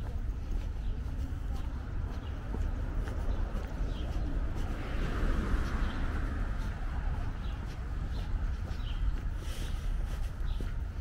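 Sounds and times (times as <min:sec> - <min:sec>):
small birds chirping: 0:00.0 - 0:11.0
street ambience rumble: 0:00.0 - 0:11.0.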